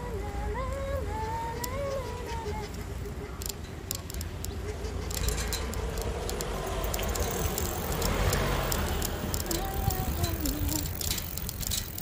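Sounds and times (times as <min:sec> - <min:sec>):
road rumble: 0:00.0 - 0:12.0
wind buffeting microphone: 0:00.0 - 0:12.0
rattling clicks: 0:01.6 - 0:12.0.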